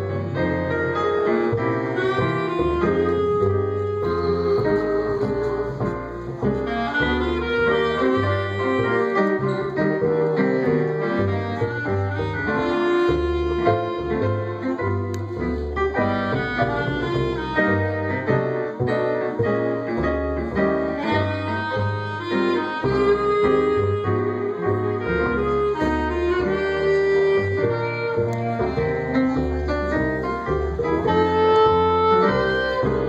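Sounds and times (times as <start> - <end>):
small band playing slow ballad: 0.0 - 33.0.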